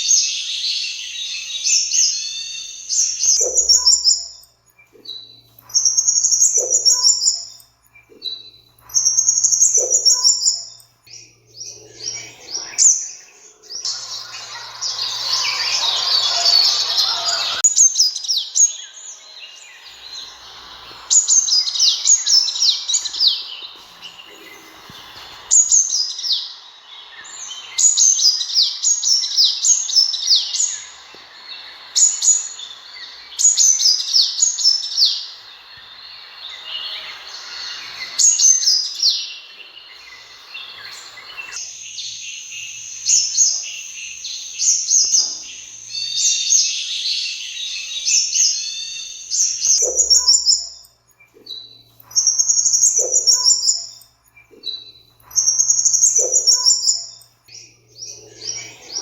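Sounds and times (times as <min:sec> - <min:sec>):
high buzzy bird trill: 0:00.0 - 0:59.0
sunbird high thin chirps: 0:00.0 - 0:59.0.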